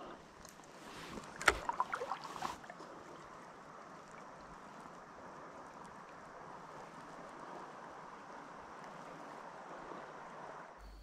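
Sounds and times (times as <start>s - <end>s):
river water flowing: 0.0s - 10.8s.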